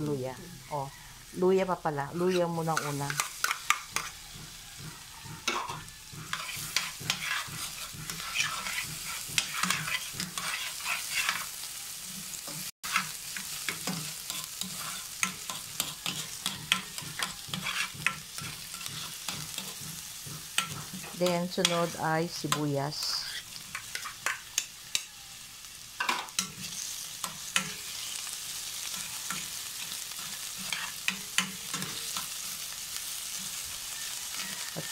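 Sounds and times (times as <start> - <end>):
garlic and ginger sizzling in oil: 0.0 - 34.9
spatula scraping a metal pan: 2.2 - 25.1, 26.0 - 34.9.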